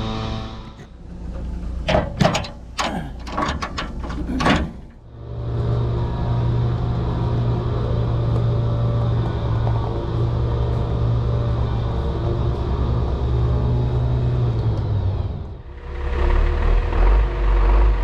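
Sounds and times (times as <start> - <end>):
diesel truck engine humming: 0.0 - 18.0.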